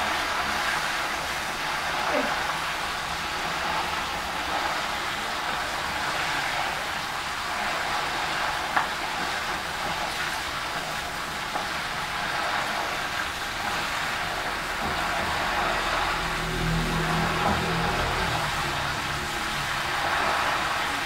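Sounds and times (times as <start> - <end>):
leaves sizzling in hot oil: 0.0 - 21.0.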